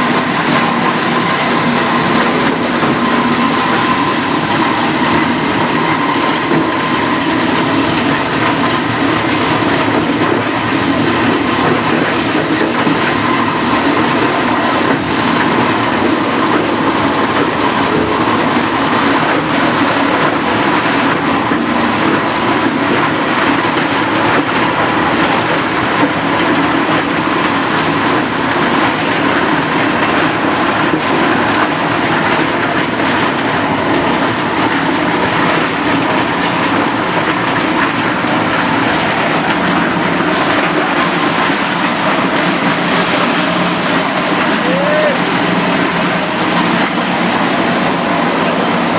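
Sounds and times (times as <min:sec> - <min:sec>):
recycling machinery running: 0:00.0 - 0:48.9.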